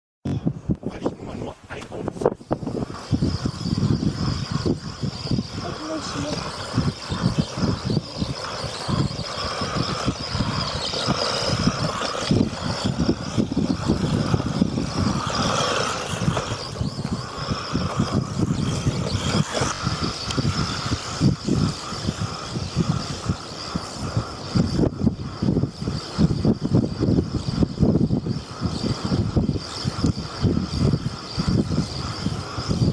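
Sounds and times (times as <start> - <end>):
wind rumble on microphone: 0.2 - 32.9
electric motor whining: 0.6 - 32.9.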